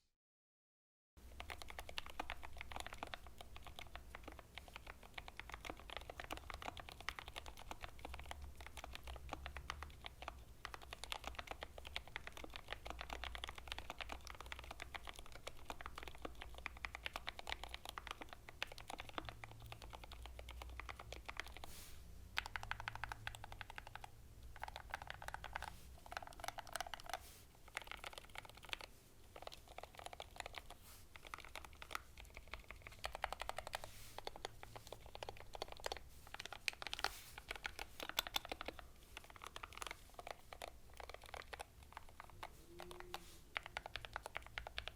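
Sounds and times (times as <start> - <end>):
mechanical keyboard typing: 1.3 - 21.7, 22.3 - 44.9.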